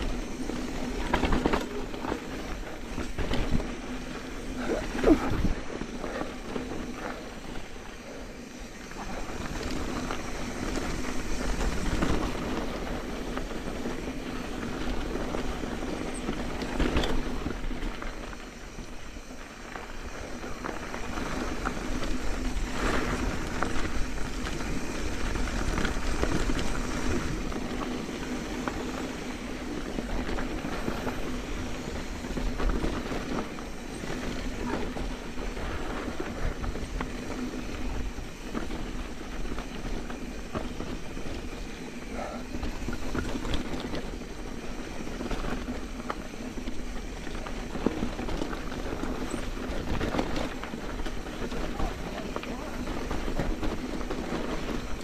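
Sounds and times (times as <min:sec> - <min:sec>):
bike rattling: 0:00.0 - 0:55.0
bike tyres rumbling on dirt: 0:00.0 - 0:55.0.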